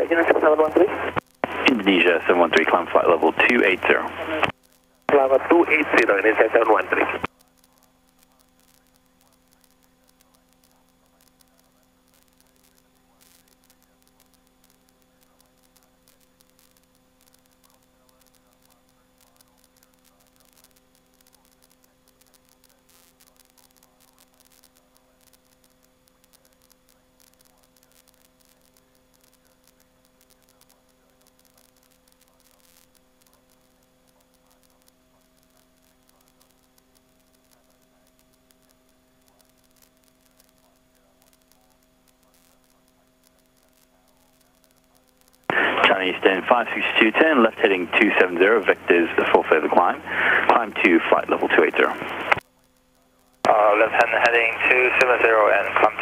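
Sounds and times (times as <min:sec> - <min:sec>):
faint steady hum: 0:00.0 - 0:56.0
light hiss: 0:05.1 - 0:52.4.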